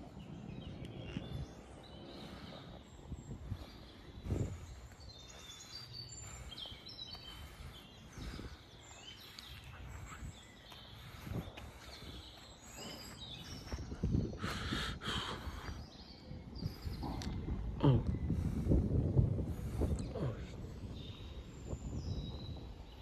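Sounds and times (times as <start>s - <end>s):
songbirds singing and chirping: 0.0s - 23.0s.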